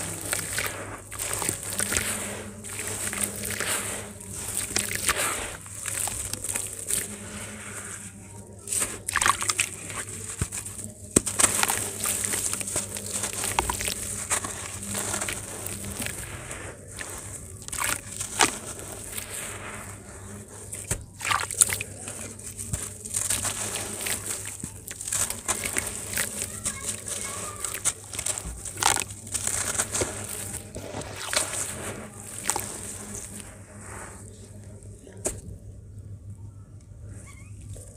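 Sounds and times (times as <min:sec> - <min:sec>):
sharp crackles of sand breaking: 0:00.0 - 0:34.4
sand crunching and sloshing underwater: 0:00.0 - 0:35.7.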